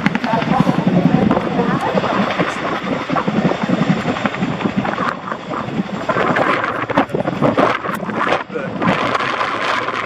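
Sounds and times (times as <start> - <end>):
helicopter rotor blade slap: 0.0 - 10.0.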